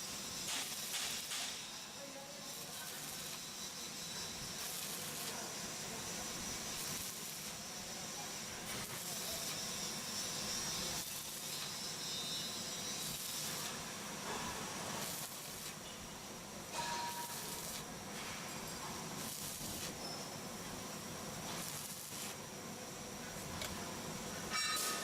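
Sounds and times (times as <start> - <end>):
arc welding hiss: 0.0 - 25.0.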